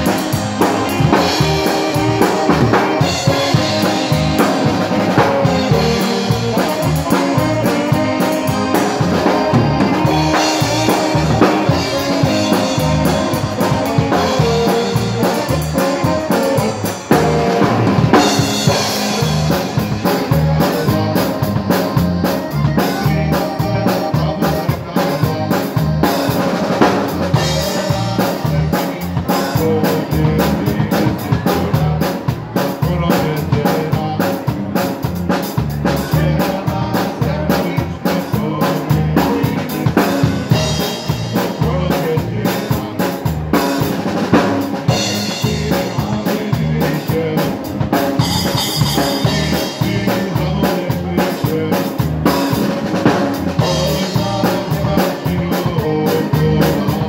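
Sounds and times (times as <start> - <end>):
dance band playing: 0.0 - 57.0
drum kit: 0.0 - 57.0.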